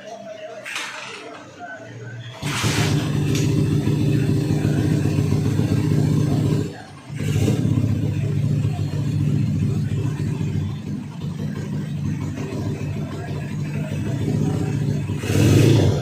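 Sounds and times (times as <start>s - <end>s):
motorcycle engine idling: 2.4s - 16.0s.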